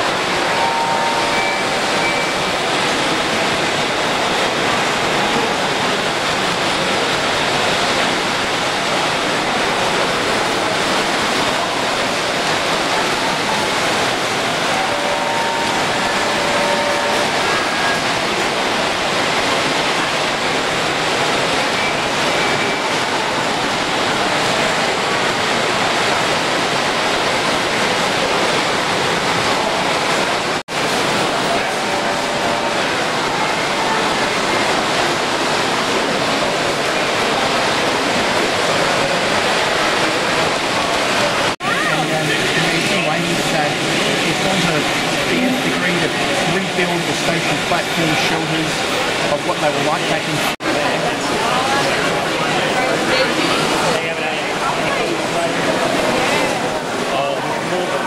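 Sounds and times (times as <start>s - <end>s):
busy hall din: 0.0s - 58.0s
model trains running: 0.0s - 58.0s.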